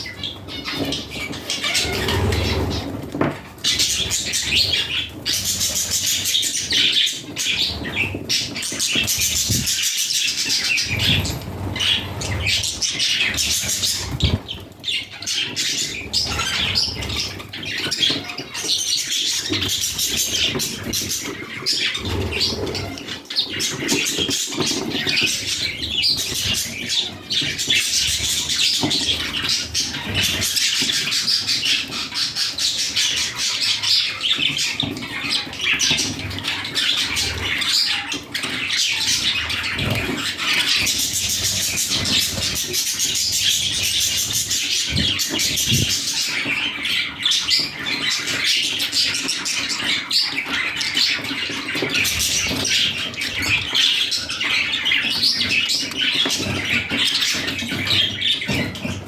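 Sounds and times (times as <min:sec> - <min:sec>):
budgies chattering: 0:00.0 - 0:59.0.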